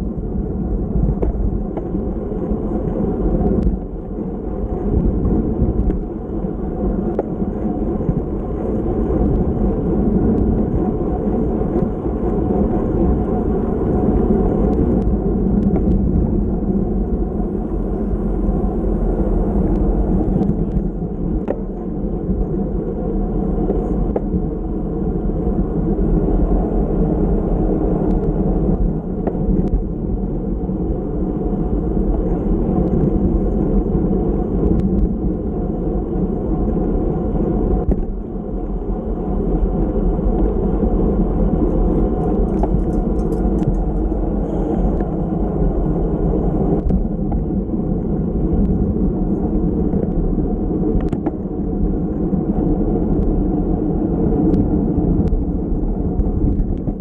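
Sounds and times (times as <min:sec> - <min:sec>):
road rumble: 0:00.0 - 0:57.0
wind rush: 0:00.0 - 0:57.0.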